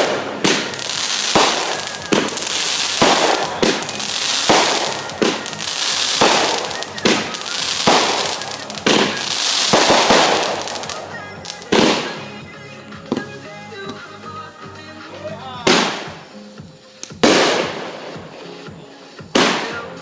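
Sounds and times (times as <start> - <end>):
fireworks banging: 0.0 - 20.0
high hiss of fireworks: 0.0 - 20.0.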